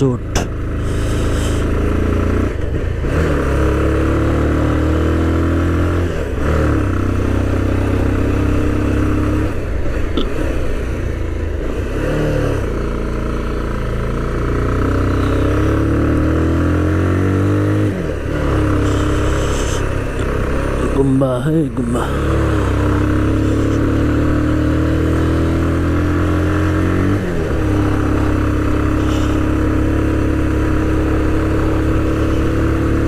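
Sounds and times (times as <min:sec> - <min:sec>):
motorcycle engine shifting gears: 0:00.0 - 0:33.0.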